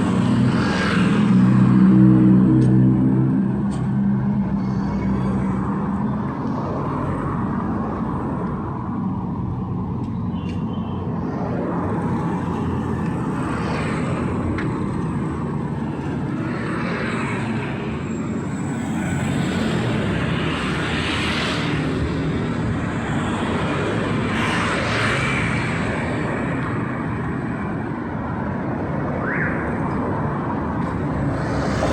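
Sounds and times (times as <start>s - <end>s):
traffic drone: 0.0s - 31.9s
vehicles passing: 0.0s - 31.9s.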